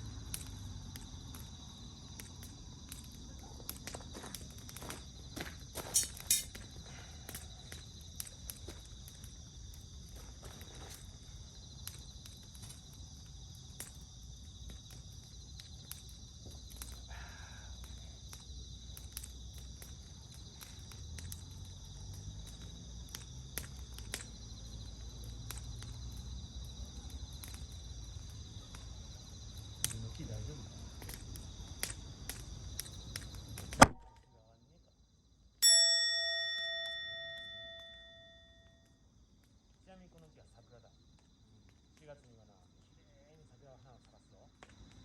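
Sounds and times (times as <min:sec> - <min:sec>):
wood fire crackling: 0:00.0 - 0:34.5, 0:35.3 - 0:45.0
insects chirping: 0:00.0 - 0:45.0.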